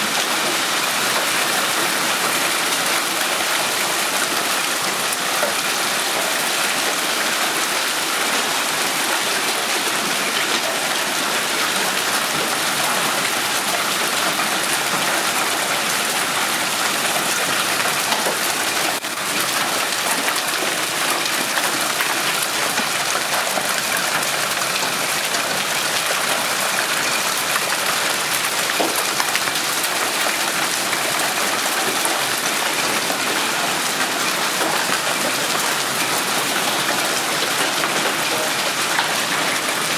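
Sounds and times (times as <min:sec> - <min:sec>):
hail and rain pelting down: 0:00.0 - 0:39.9.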